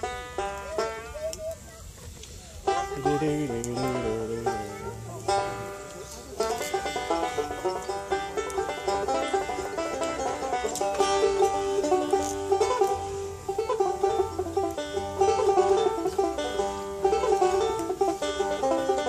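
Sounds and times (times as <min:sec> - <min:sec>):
banjo finger-picking: 0:00.0 - 0:19.0.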